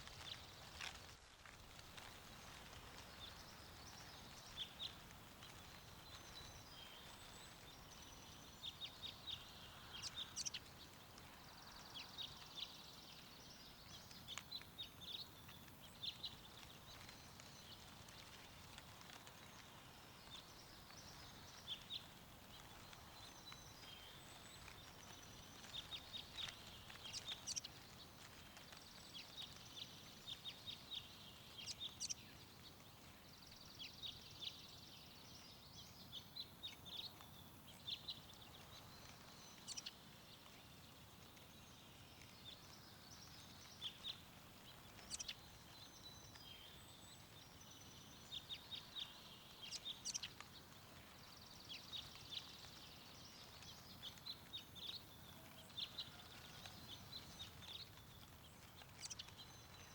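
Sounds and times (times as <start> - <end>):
faint wind hiss: 0.0 - 59.9
songbirds chirping: 0.0 - 59.9.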